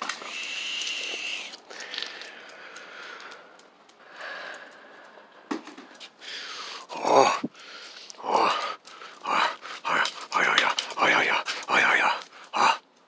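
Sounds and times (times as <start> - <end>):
heavy wheezy breathing: 0.2 - 5.4, 6.1 - 12.8.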